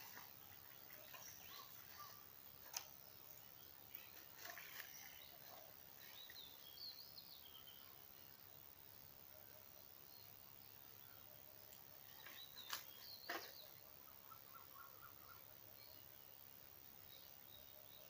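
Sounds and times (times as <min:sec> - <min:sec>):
small birds chirping: 0:00.0 - 0:18.0
steady high hiss: 0:00.0 - 0:18.0.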